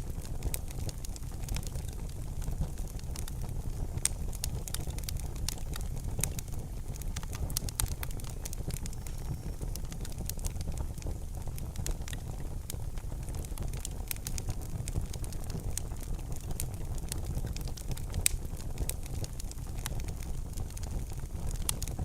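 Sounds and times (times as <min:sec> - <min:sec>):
low fire rumble: 0:00.0 - 0:22.0
wood fire crackling and popping: 0:00.0 - 0:22.0.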